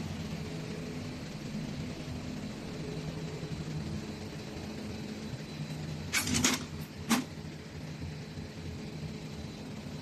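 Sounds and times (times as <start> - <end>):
factory machinery hum: 0.0 - 10.0.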